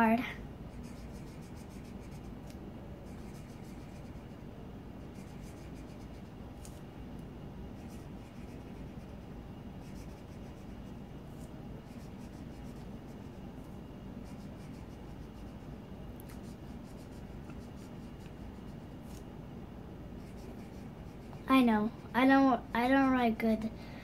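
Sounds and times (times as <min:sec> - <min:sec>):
marker scratching on paper: 0:00.7 - 0:06.8, 0:07.8 - 0:19.2, 0:20.2 - 0:23.4.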